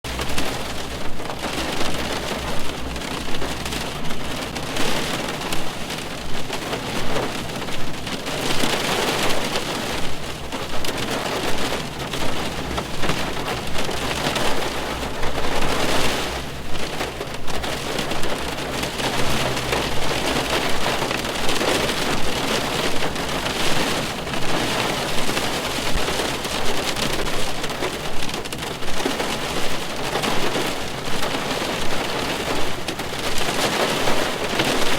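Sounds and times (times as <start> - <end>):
rain on car roof: 0.0 - 34.9.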